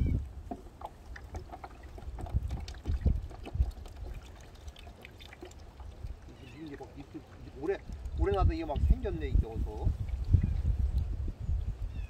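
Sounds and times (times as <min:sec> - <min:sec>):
water splashing into plastic basin: 0:00.4 - 0:11.2.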